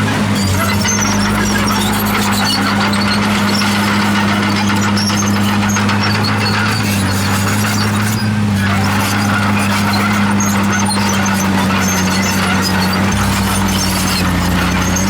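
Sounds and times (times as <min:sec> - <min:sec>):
bulldozer diesel engine running: 0:00.0 - 0:15.0
working noise: 0:00.0 - 0:15.0.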